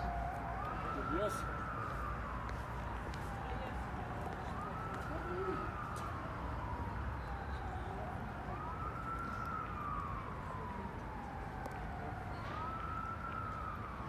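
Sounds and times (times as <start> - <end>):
city background rumble: 0.0 - 14.0
emergency siren wailing: 0.0 - 14.0.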